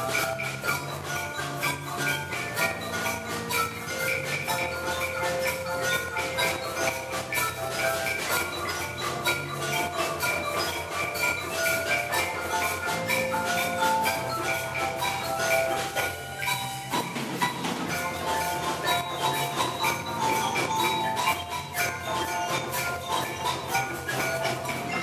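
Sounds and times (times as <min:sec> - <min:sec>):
drum kit beat: 0:00.0 - 0:25.0
marimbas playing quick notes: 0:00.0 - 0:25.0.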